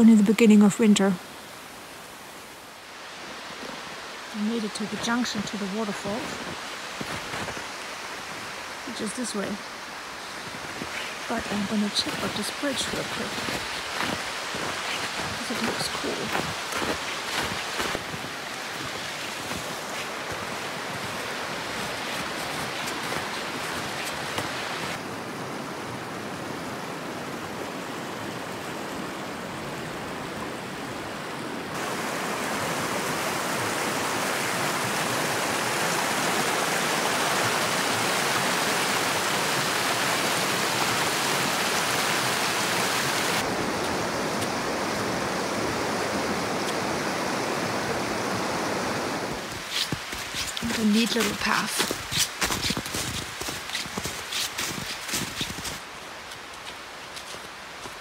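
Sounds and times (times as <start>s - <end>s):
river rushing over rocks: 1.2s - 58.0s.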